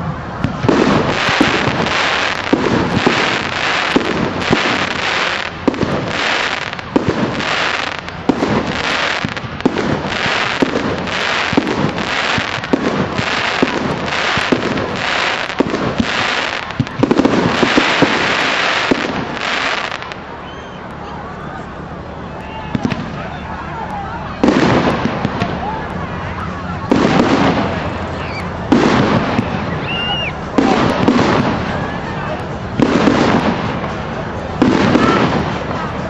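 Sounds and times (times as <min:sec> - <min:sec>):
fireworks banging and crackling: 0:00.0 - 0:36.0.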